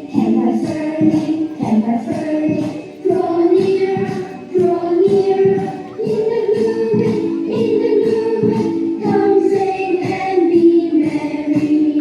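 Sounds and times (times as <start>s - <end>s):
group of voices singing: 0.0s - 12.0s.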